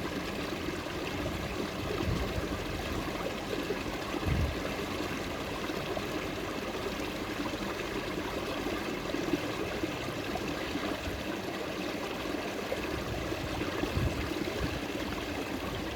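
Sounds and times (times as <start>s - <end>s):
stream babbling: 0.0s - 15.9s.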